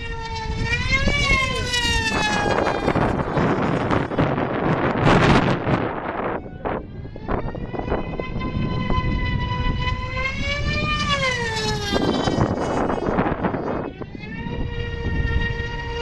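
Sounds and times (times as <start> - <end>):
model airplane engine drone: 0.0 - 16.0
wind gusts on microphone: 0.0 - 16.0.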